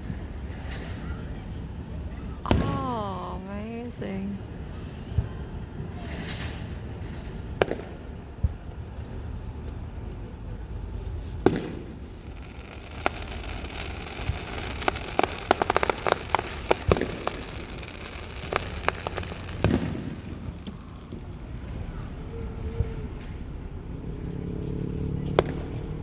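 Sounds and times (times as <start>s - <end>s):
fireworks crackling: 0.0s - 26.0s
fireworks booming: 2.1s - 9.1s, 10.7s - 24.0s, 24.7s - 26.0s.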